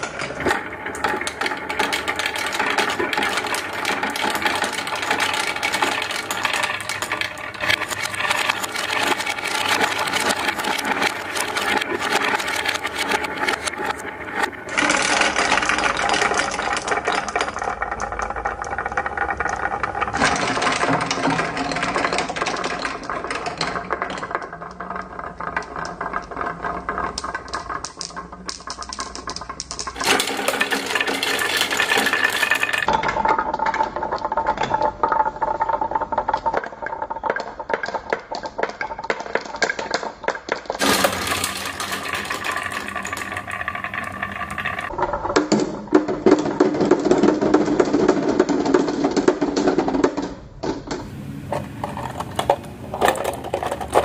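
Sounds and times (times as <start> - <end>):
marbles rolling on wooden track: 0.0 - 54.0.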